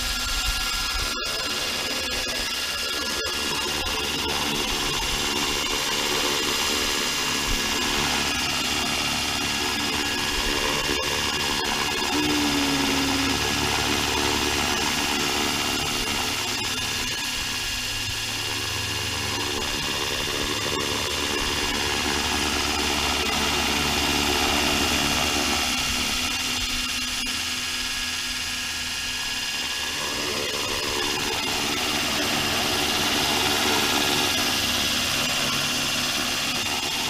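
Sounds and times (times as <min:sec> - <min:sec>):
model helicopter rotor whine: 0:00.0 - 0:37.0.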